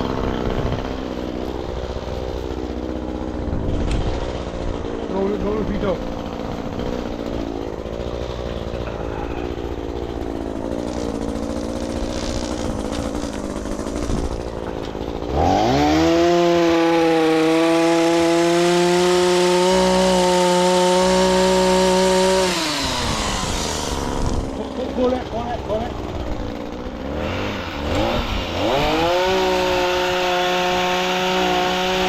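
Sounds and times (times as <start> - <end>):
chainsaw idling and revving: 0.0 - 32.0.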